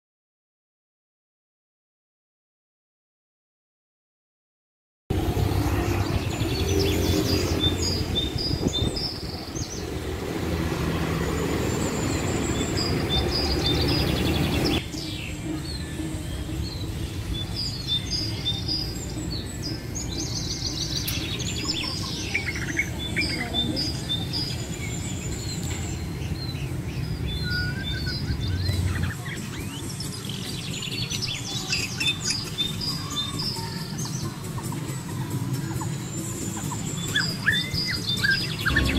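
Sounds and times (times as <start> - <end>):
birds chirping and singing: 5.2 - 38.9.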